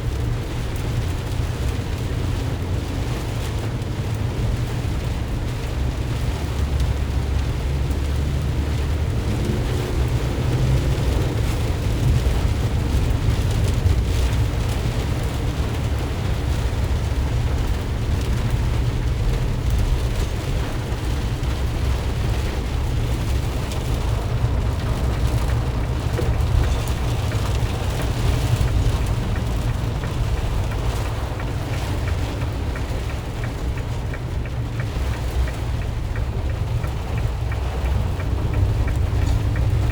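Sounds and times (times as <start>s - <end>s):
rain and spray hissing: 0.0s - 39.9s
van engine and tyres rumbling: 0.0s - 39.9s.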